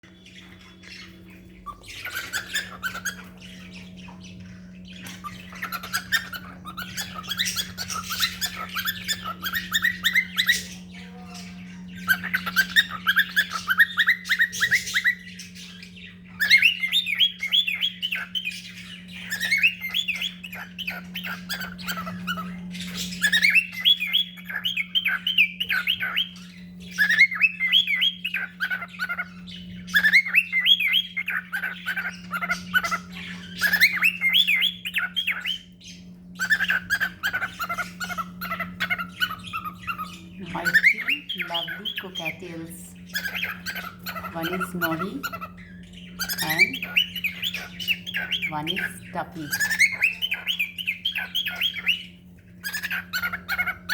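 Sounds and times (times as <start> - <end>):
cockatiels chirping: 0.0 - 53.9
steady low hum: 0.0 - 53.9.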